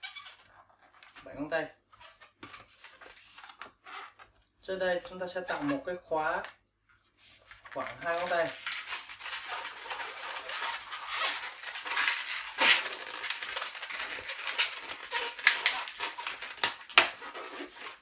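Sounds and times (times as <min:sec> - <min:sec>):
rubber balloon squeaking: 0:00.0 - 0:04.4, 0:07.7 - 0:18.0
balloon twists creaking: 0:00.0 - 0:05.9, 0:07.4 - 0:18.0.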